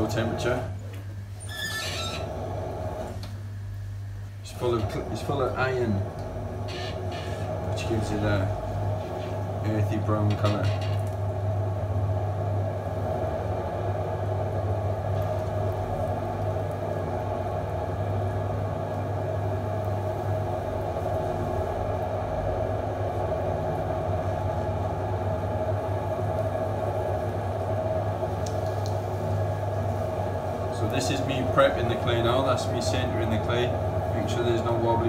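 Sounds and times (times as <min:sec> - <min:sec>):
potter's wheel motor hum: 0:00.0 - 0:35.0.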